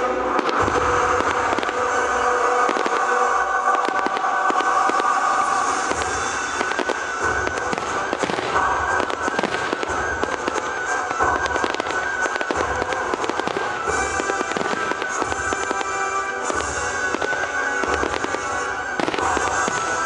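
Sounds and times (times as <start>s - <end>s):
fireworks crackling: 0.0s - 20.0s
deep firework thuds: 3.8s - 20.0s.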